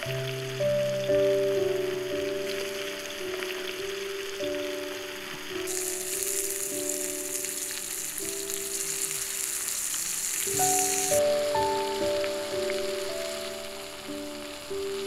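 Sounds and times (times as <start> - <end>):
soft background music: 0.0 - 15.0
steak sizzling in frying pan: 0.0 - 15.0.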